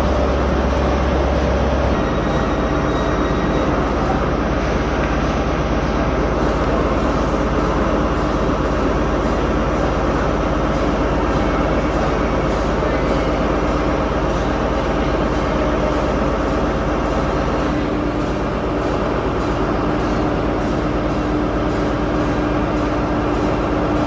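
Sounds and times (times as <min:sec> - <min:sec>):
diesel train engine idling: 0:00.0 - 0:24.0.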